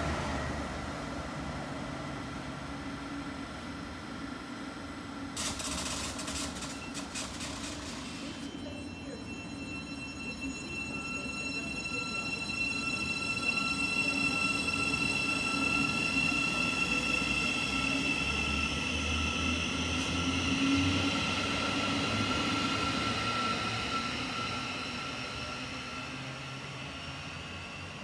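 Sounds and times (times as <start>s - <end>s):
train running with high whine: 0.0s - 28.0s.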